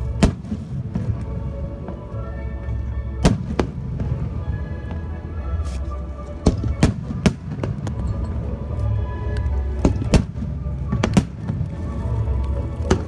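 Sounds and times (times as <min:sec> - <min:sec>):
music with low bass: 0:00.0 - 0:13.0.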